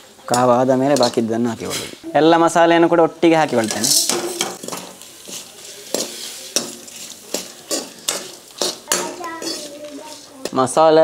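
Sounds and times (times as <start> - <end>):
light sizzle: 0.0 - 11.0
steel spoon scraping a pan: 0.3 - 2.0, 3.4 - 10.8.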